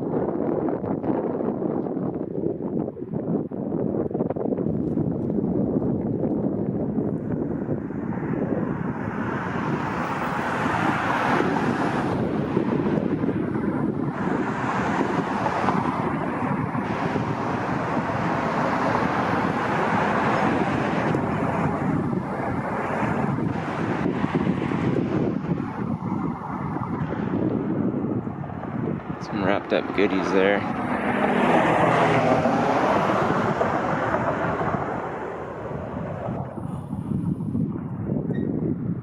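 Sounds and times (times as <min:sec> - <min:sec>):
vehicle noise: 0:00.0 - 0:39.0
wind buffeting microphone: 0:00.0 - 0:39.0.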